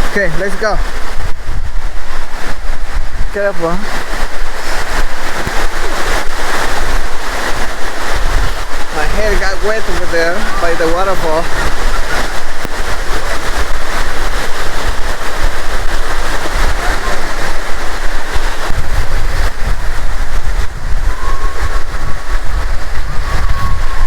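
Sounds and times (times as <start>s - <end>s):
waterfall roaring: 0.0s - 24.0s
wind buffeting microphone: 0.0s - 24.0s.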